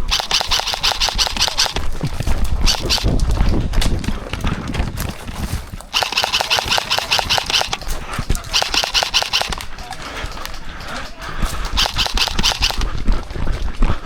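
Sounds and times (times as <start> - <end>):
airsoft guns firing bursts: 0.0 - 13.4.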